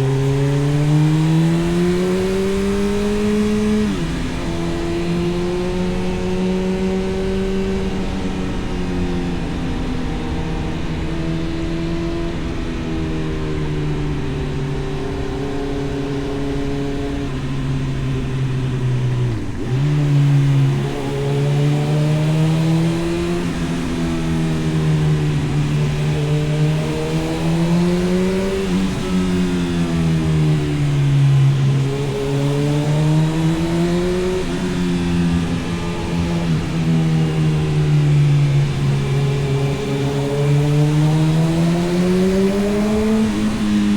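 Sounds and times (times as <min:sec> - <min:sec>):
motorcycle engine while riding: 0:00.0 - 0:43.9.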